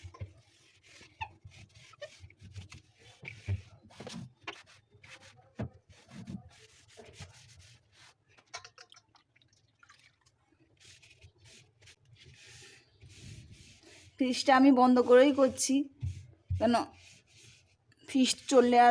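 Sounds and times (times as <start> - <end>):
damp cloth rubbing: 0.0 - 8.3, 10.8 - 18.9.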